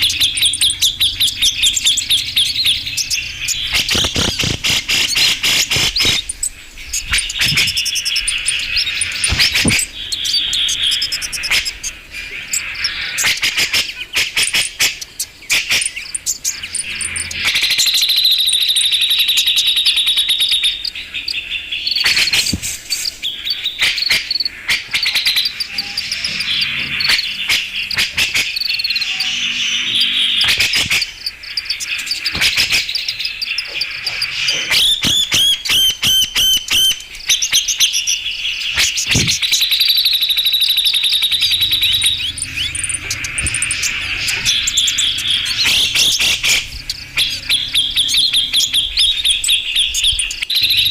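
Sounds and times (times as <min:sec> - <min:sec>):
bulbul harsh chattering calls: 0:00.0 - 0:50.9
fast buzzy bird trill: 0:00.0 - 0:50.9.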